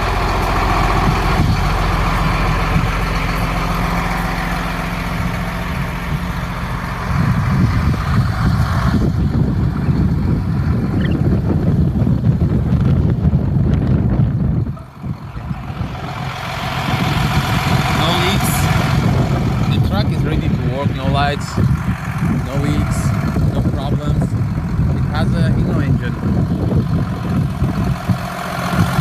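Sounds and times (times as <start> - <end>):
truck diesel engine idling: 0.0 - 29.0.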